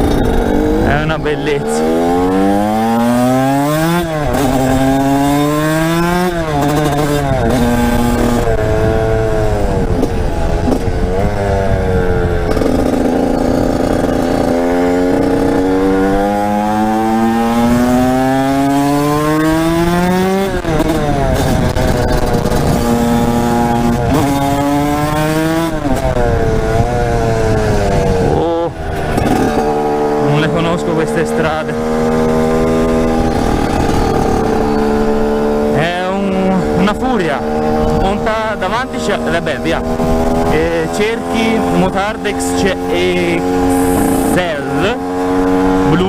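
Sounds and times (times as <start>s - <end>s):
two-stroke motorcycle engine revving: 0.0s - 46.0s.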